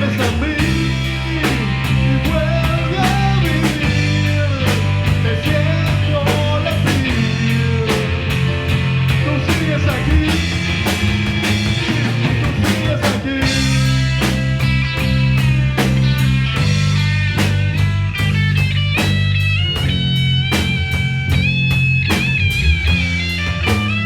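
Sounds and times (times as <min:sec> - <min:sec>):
bass: 0:00.0 - 0:24.0
drum kit steady beat: 0:00.0 - 0:24.0
electric guitar: 0:00.0 - 0:24.0.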